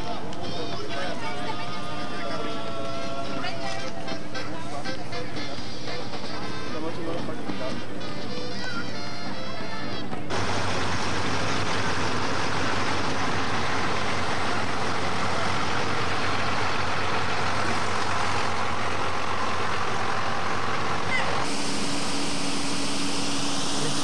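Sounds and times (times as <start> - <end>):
bus engine rumbling: 0.0 - 8.5, 9.2 - 24.0.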